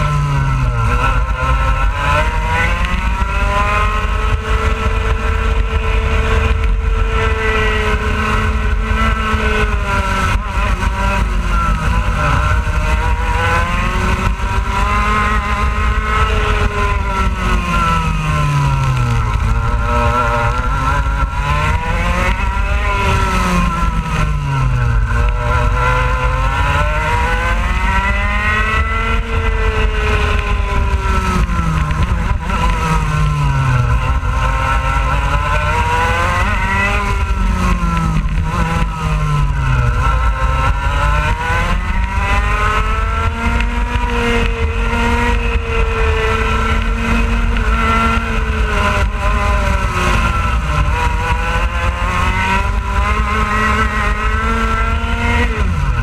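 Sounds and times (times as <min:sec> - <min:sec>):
kart engine at racing speed: 0:00.0 - 0:56.0.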